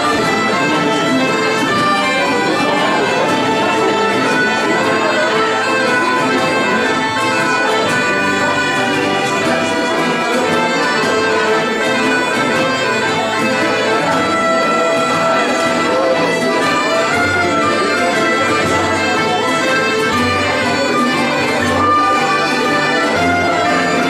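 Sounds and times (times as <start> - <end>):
folk dance music on accordion: 0.0 - 24.0.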